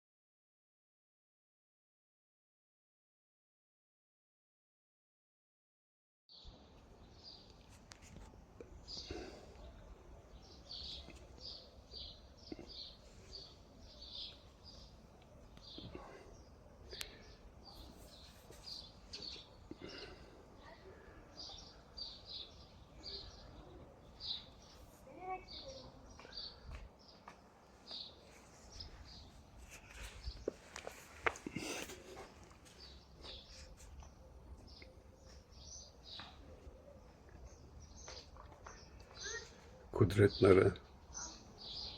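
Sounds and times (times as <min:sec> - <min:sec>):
bird chirping: 0:06.3 - 0:41.9.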